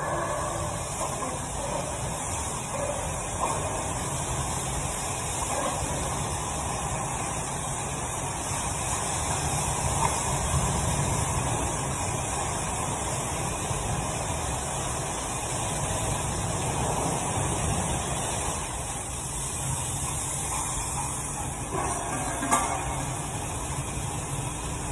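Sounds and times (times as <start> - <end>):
pressure washer spraying water: 0.0 - 24.9.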